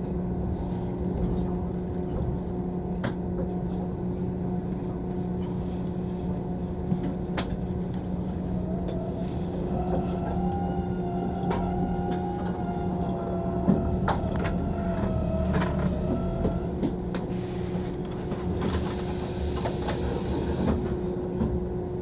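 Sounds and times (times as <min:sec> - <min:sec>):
train interior hum: 0:00.0 - 0:22.0.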